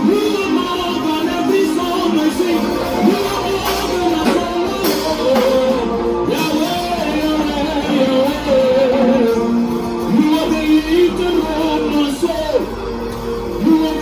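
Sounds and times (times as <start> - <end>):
voices singing held notes: 0.0 - 14.0
worship band with guitar: 0.0 - 14.0.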